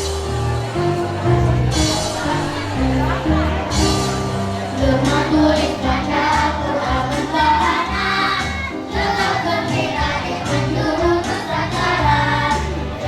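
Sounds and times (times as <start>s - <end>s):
children's choir singing: 0.0s - 13.0s
musical accompaniment with low notes: 0.0s - 13.0s.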